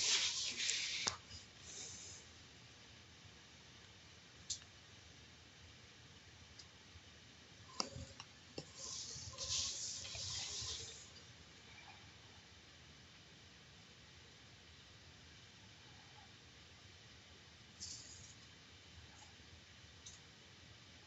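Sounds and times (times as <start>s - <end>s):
soft hiss: 0.0s - 5.2s, 6.0s - 21.0s.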